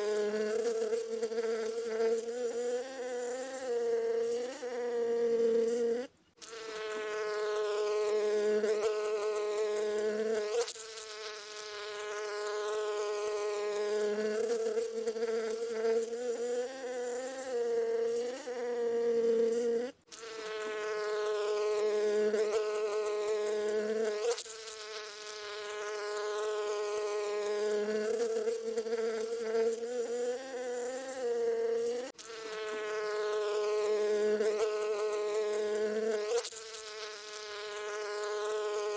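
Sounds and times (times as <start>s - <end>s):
bee buzzing in flight: 0.0s - 38.9s.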